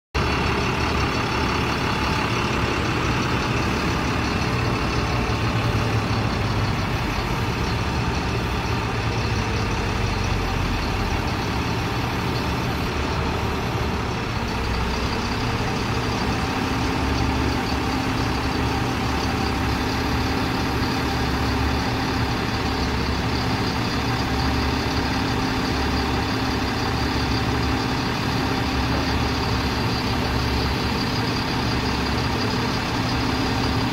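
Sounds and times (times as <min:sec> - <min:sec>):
truck engine running: 0:00.2 - 0:33.9.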